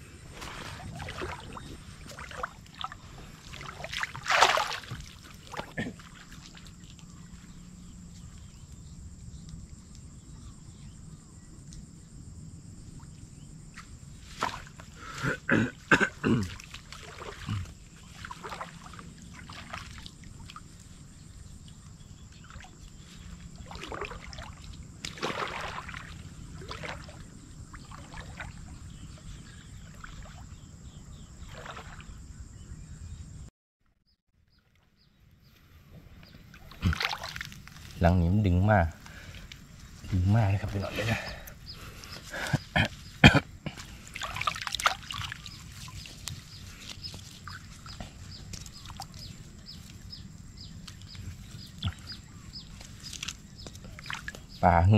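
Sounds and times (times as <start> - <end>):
water sloshing and splashing: 0.2 - 8.8, 12.9 - 32.4, 36.4 - 38.1, 38.7 - 54.7.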